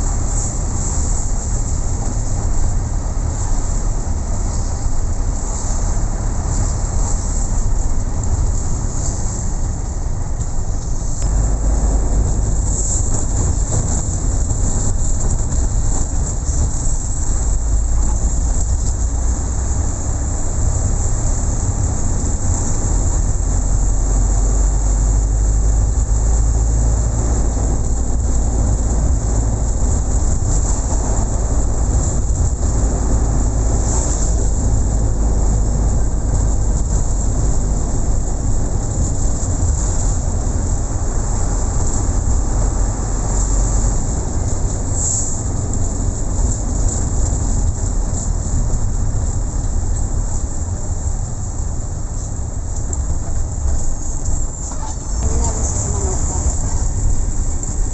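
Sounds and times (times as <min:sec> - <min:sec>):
moving vehicle rumble and hiss: 0:00.0 - 0:57.9.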